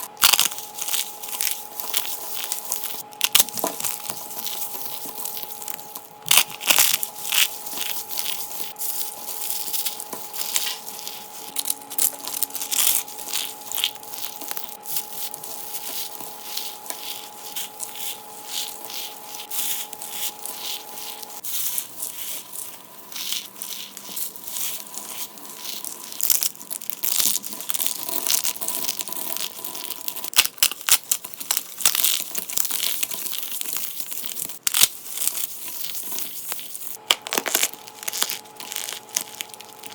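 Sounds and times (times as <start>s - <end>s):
dry soap crackling and crunching: 0.0s - 39.9s.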